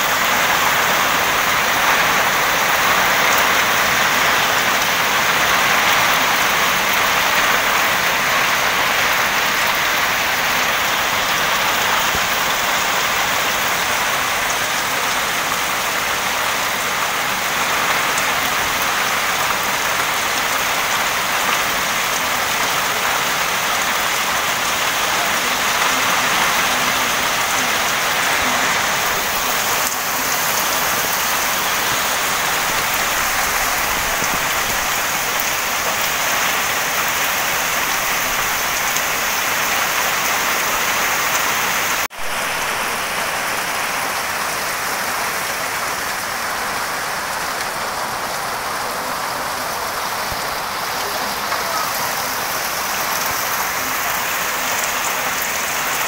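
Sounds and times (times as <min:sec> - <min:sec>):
heavy rain on grass: 0:00.0 - 0:56.0
rain splashing into puddles: 0:00.0 - 0:56.0.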